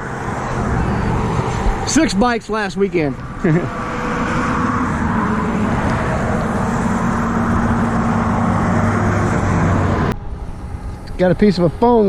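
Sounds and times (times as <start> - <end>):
engine humming: 0.0 - 12.0
traffic: 0.0 - 12.0.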